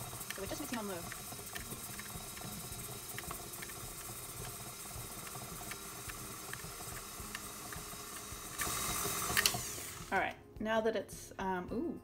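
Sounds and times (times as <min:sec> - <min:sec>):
stand mixer running: 0:00.0 - 0:10.2.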